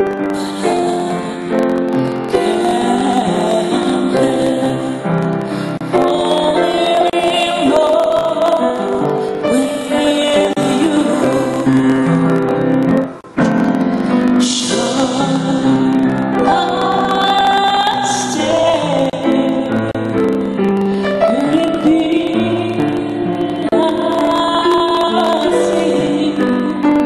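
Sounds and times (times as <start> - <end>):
upright piano: 0.0 - 27.0
woman singing into a microphone: 0.0 - 27.0.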